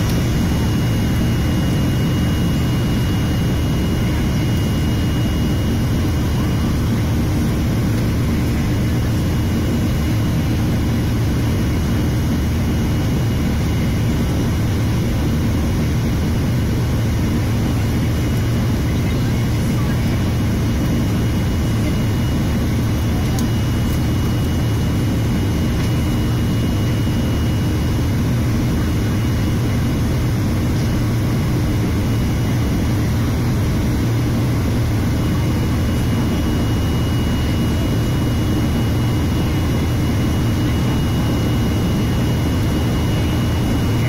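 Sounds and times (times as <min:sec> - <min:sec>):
faint high whine: 0:00.0 - 0:44.0
jet engine drone: 0:00.0 - 0:44.0.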